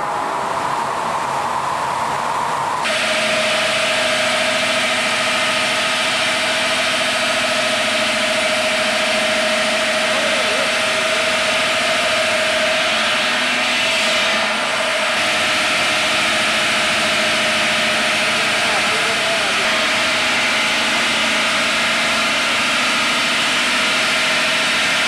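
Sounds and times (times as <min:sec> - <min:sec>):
motor whine: 0:00.0 - 0:25.0.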